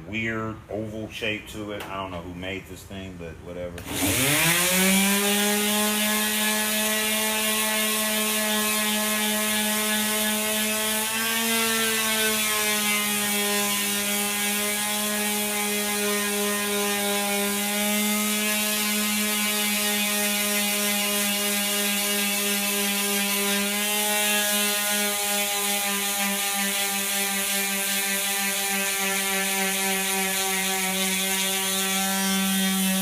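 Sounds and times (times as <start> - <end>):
electric power sander running: 3.8 - 33.0.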